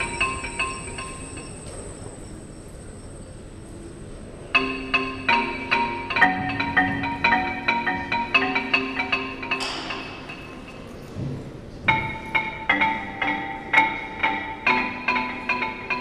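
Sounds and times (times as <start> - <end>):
marimba-like mallet music: 0.0 - 2.2, 4.5 - 11.1, 11.9 - 16.0.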